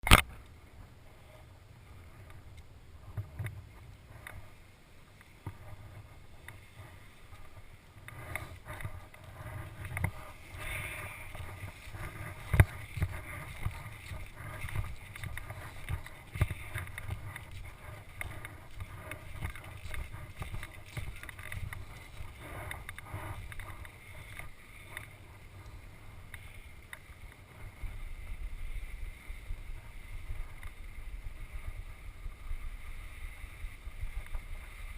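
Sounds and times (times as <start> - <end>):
low wind rumble on camera: 0.0 - 34.9.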